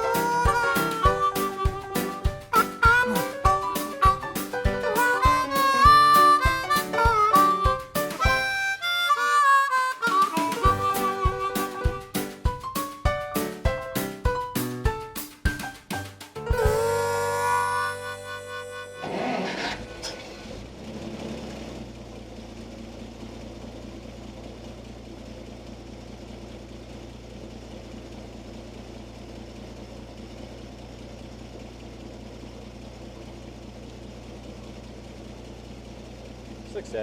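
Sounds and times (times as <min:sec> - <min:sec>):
truck engine starting and idling: 0:00.0 - 0:37.0.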